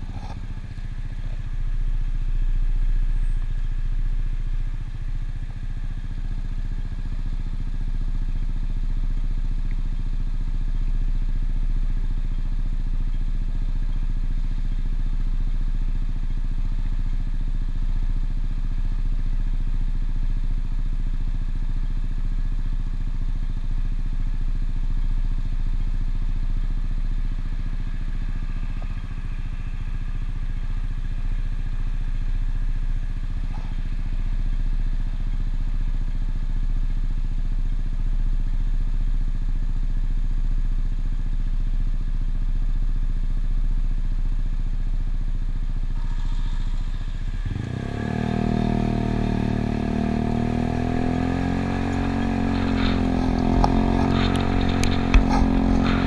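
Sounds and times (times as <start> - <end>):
scooter engine idling and revving: 0.0 - 56.0.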